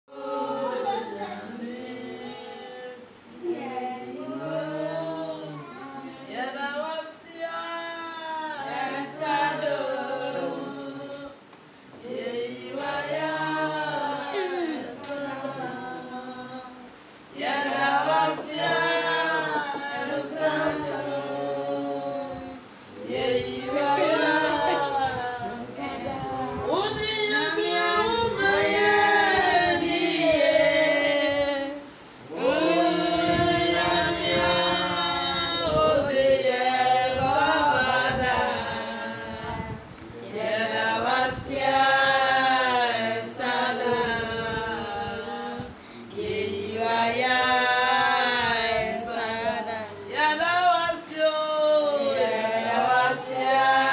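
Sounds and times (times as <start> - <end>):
group singing a cappella: 0.0 - 53.9.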